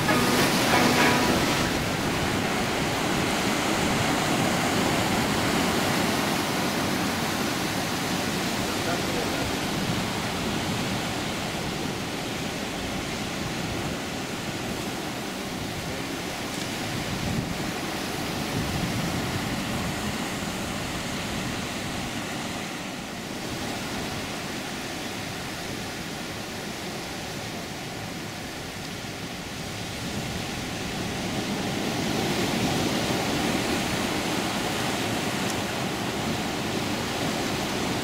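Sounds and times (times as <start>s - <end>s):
ocean surf washing around rocks: 0.0s - 38.0s.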